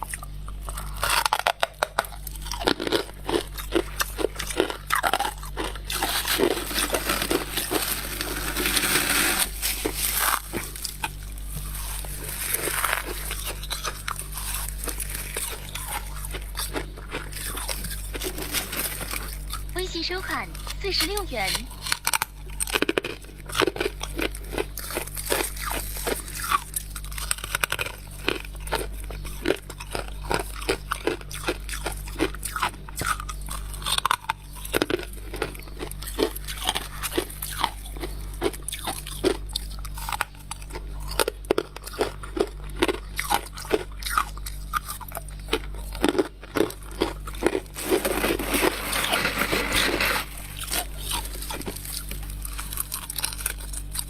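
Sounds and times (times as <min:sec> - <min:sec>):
crunching and chewing of frost: 0:00.0 - 0:54.0
steady low hum: 0:00.0 - 0:54.0.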